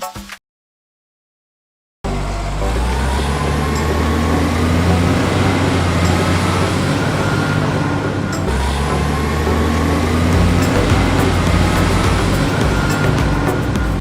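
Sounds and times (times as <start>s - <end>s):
engine droning: 2.0s - 14.0s.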